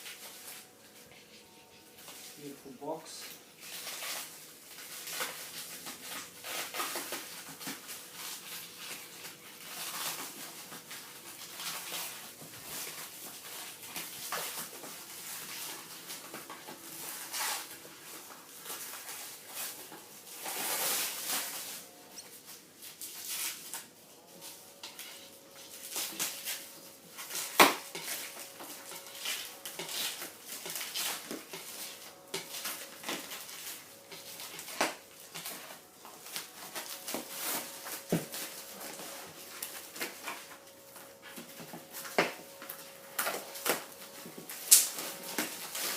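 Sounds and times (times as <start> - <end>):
wrapping material rustling: 0.0 - 45.9.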